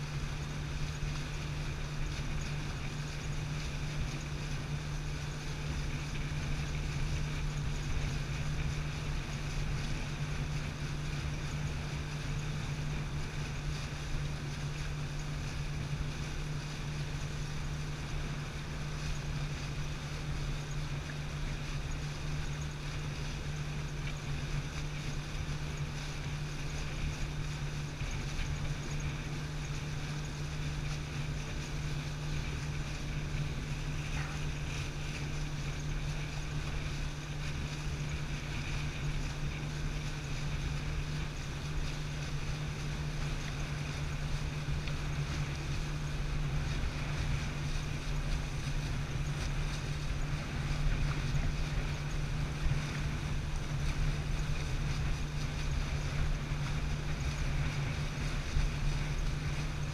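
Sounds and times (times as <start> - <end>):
boat motor drone: 0.0 - 59.9
water rushing past hull: 0.0 - 59.9
wind on microphone: 0.0 - 59.9.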